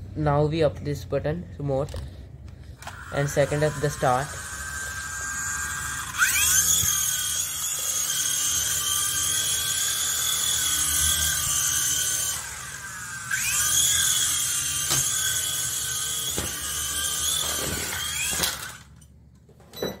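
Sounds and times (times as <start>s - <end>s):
toy helicopter motors whining: 1.8s - 19.1s.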